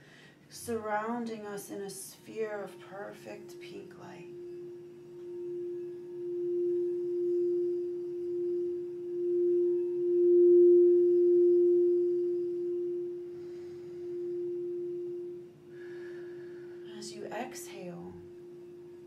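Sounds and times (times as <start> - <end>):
singing bowl ringing: 2.2 - 17.0, 17.7 - 19.0.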